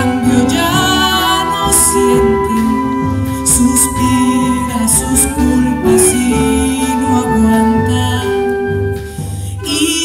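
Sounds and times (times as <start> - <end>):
wind band playing held chords: 0.0 - 9.5
woman singing: 0.0 - 10.0.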